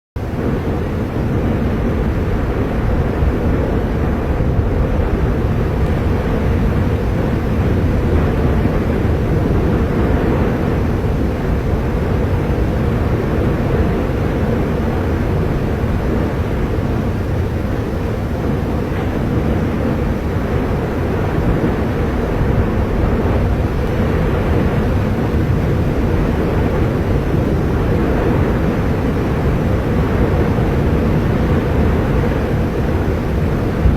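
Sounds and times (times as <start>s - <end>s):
volcano deep rumble: 0.2s - 33.9s.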